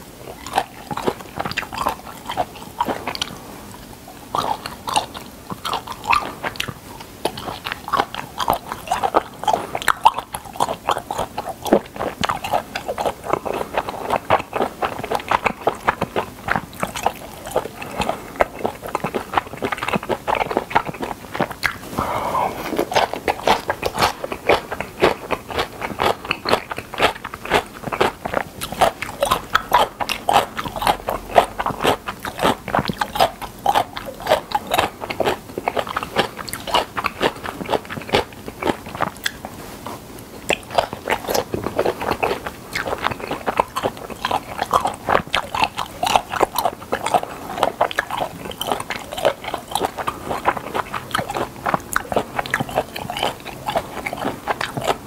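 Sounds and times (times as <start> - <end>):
chewing with mouth clicks: 0.0 - 55.0.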